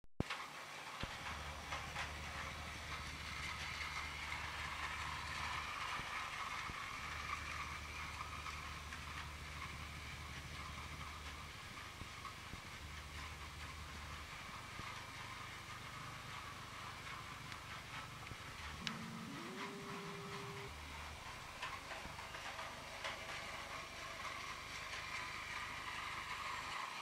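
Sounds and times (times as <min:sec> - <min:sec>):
wheels clicking over track joints: 0:00.2 - 0:27.0
toy train motor whine: 0:01.2 - 0:12.3, 0:13.0 - 0:27.0.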